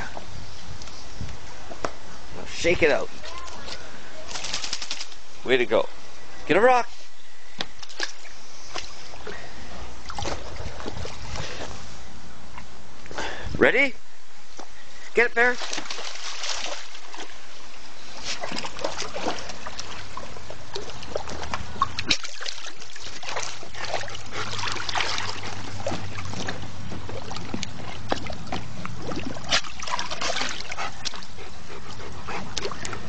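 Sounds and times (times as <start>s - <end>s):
water splashing in a plastic pool: 1.6s - 5.7s, 7.6s - 13.2s, 14.6s - 33.0s.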